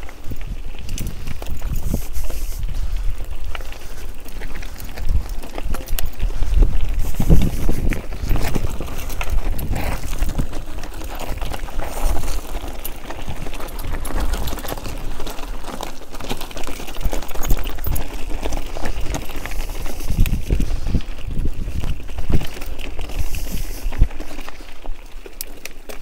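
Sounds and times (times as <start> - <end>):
wind buffeting microphone: 0.0 - 15.5, 17.1 - 24.7
bike clicks and rattles: 0.0 - 26.0
low rumble of bike: 0.0 - 26.0.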